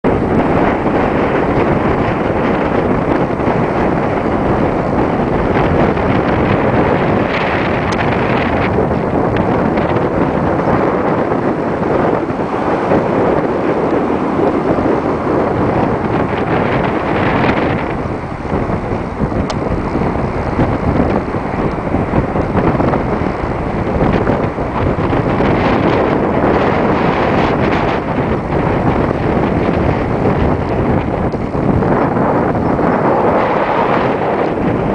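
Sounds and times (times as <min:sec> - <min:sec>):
wind buffeting microphone: 0:00.0 - 0:34.9
sea waves against rocks: 0:00.1 - 0:34.9.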